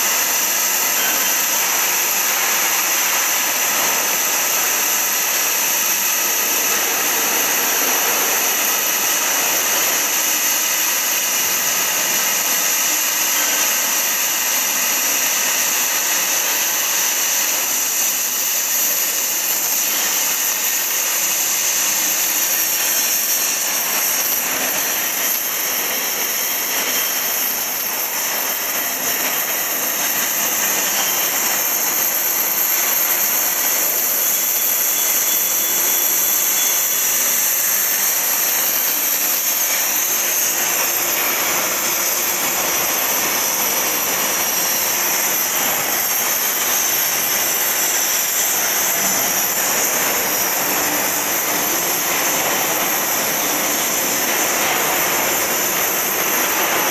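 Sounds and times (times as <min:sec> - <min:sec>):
cutting torch hissing: 0:00.0 - 0:56.9.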